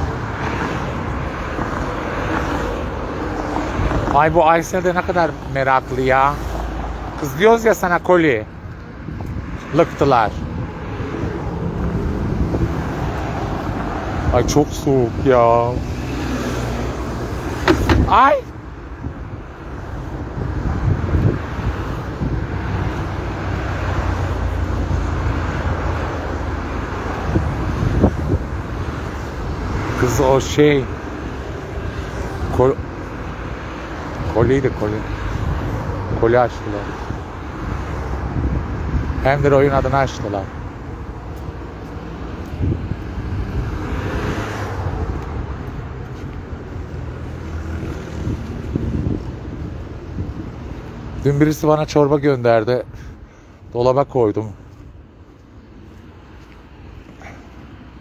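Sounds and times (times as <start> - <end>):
wind buffeting microphone: 0.0 - 51.7
vehicle passing: 0.0 - 52.3
traffic rumble: 0.0 - 58.0.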